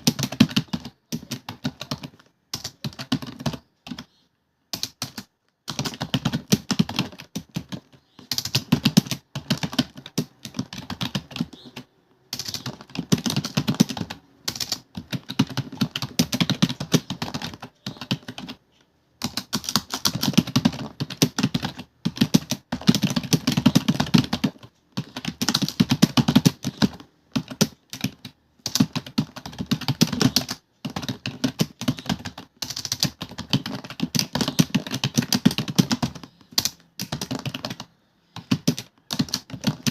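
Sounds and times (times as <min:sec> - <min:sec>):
fast keyboard typing: 0:00.0 - 0:04.1, 0:04.7 - 0:39.9.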